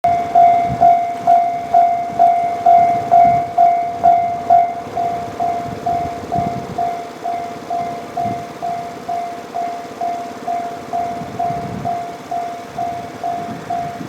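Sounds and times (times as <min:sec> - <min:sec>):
level crossing warning bell ringing: 0:00.0 - 0:14.0.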